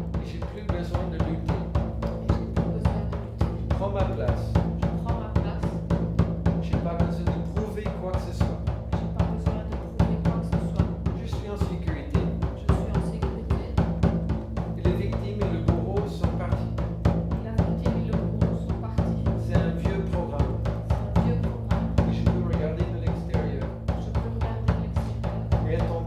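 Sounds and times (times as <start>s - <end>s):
large drum struck with mallet: 0.0s - 26.0s.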